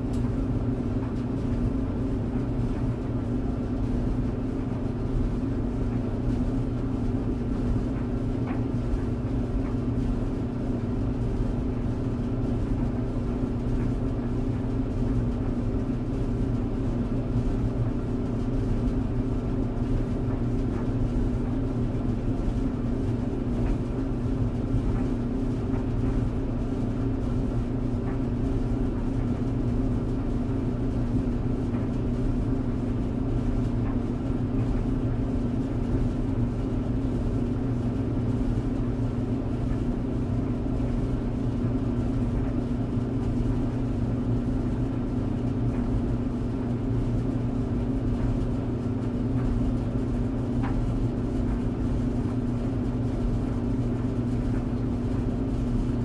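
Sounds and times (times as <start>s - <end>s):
tumble dryer humming: 0.0s - 56.0s.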